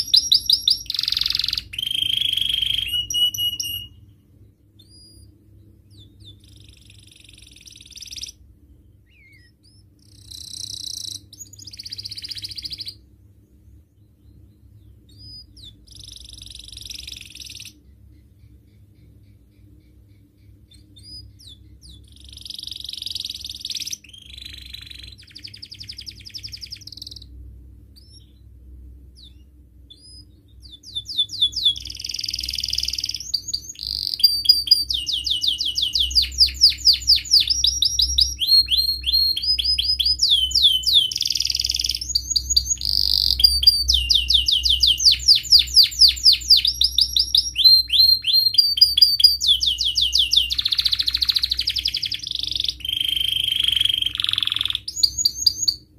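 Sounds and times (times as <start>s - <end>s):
canary singing: 0.0s - 55.9s
faint low hum: 0.0s - 55.9s.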